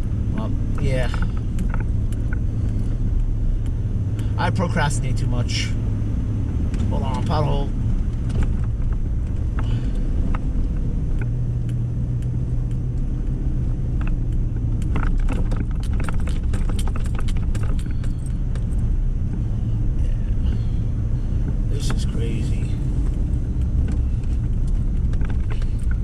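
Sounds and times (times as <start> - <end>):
truck engine rumble inside cab: 0.0 - 26.0
sharp rattles and clicks: 0.3 - 5.2, 6.6 - 19.4, 21.4 - 26.0.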